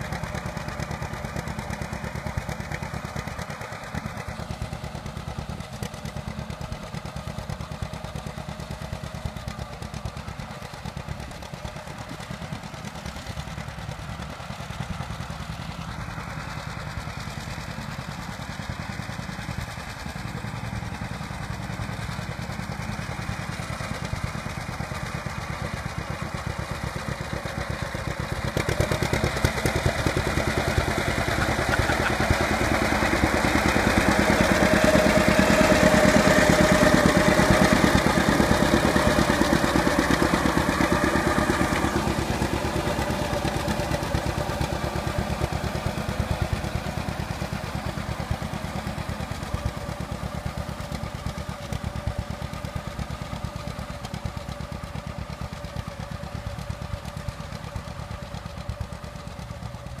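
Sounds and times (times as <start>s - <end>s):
tractor engine running: 0.0s - 60.0s.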